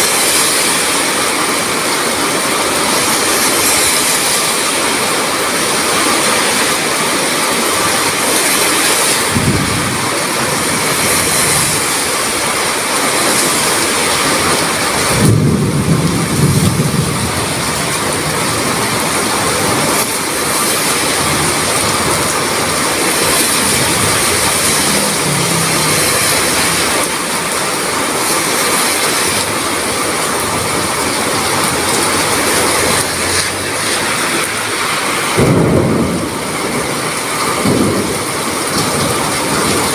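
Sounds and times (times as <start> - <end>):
heavy rain pouring: 0.0 - 39.9
thunder rolling: 0.0 - 39.9.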